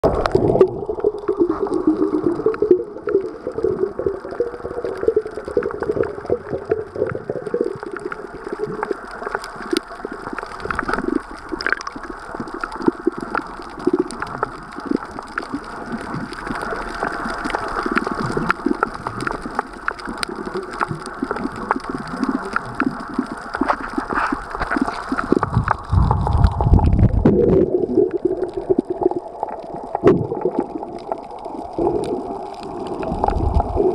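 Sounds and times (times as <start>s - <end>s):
low rush of water: 0.0s - 33.9s
small underwater clicks: 0.0s - 33.9s
water gurgling underwater: 0.0s - 33.9s.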